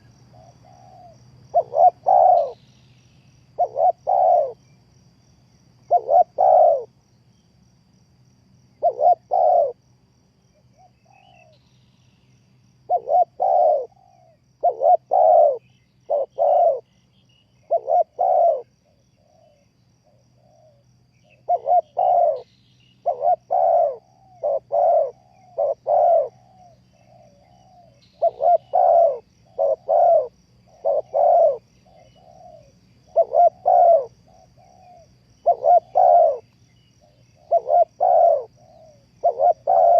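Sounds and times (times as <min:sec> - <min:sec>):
dove cooing: 0:00.0 - 0:02.6, 0:03.6 - 0:04.6, 0:05.9 - 0:06.9, 0:08.8 - 0:09.8, 0:12.9 - 0:16.9, 0:17.6 - 0:39.9.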